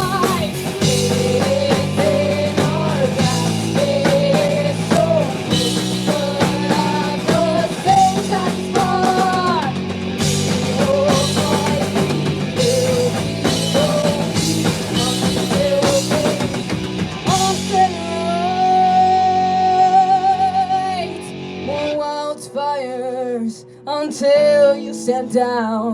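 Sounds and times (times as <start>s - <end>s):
drums: 0.0s - 22.2s
electric guitar: 0.0s - 25.9s
female lead vocal: 0.0s - 25.9s.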